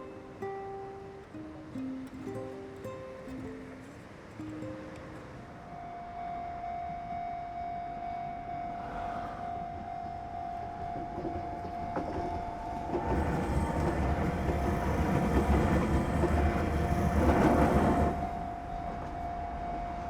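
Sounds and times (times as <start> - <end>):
electric train approaching: 0.0 - 20.0.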